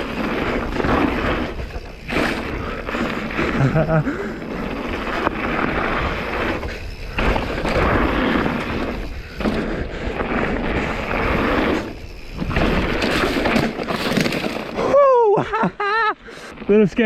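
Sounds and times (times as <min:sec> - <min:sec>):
tyre and wind noise: 0:00.0 - 0:17.0.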